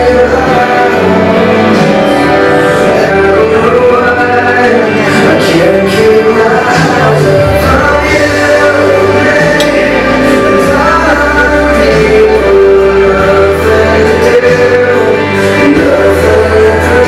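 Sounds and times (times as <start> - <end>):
slow song with singer: 0.0 - 17.0
steady bass: 0.0 - 17.0.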